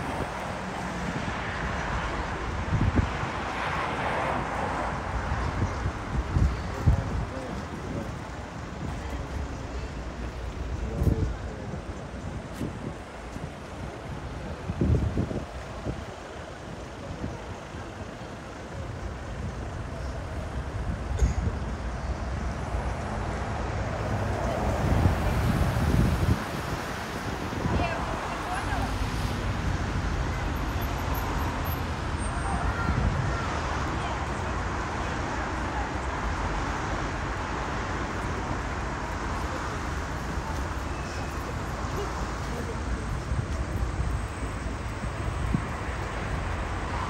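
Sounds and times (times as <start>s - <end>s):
street traffic rumble: 0.0s - 47.0s
vehicles passing: 0.0s - 47.0s.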